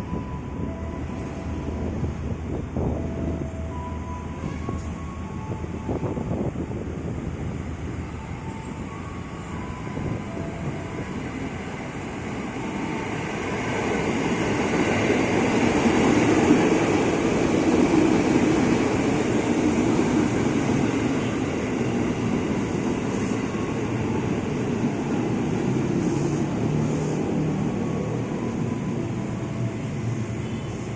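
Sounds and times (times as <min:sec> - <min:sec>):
train rumbling past: 0:00.0 - 0:30.9.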